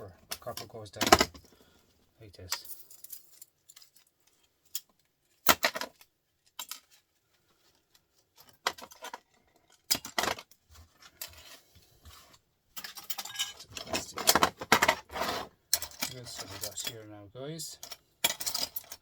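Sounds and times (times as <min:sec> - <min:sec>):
metal parts clinking and scraping: 0:02.4 - 0:07.1, 0:07.8 - 0:19.0.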